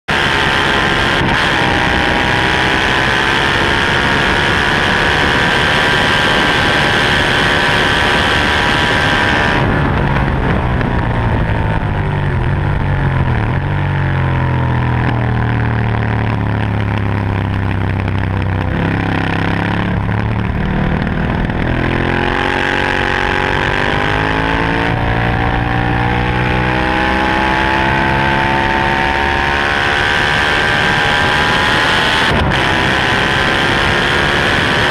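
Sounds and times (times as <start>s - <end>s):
motorcycle engine revving: 0.1s - 34.9s
wind rush: 0.6s - 13.7s, 18.5s - 34.9s.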